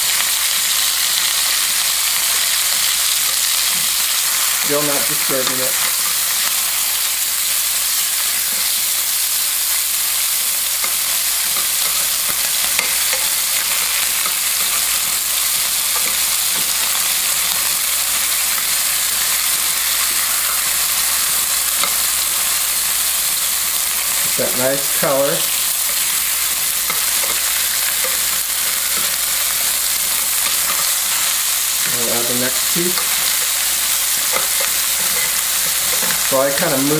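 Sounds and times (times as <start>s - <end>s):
meat sizzling in oil: 0.0s - 36.9s.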